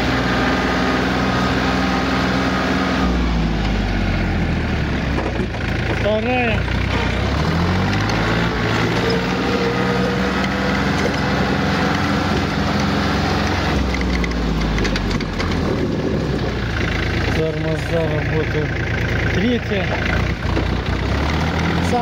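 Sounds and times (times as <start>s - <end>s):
tractor diesel engine drone: 0.0s - 22.0s.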